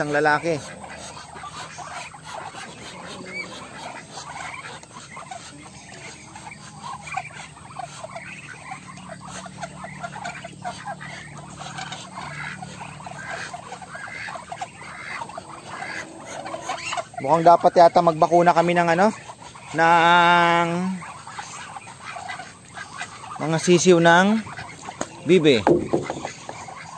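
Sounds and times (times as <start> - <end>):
ducklings peeping: 0.0 - 26.9.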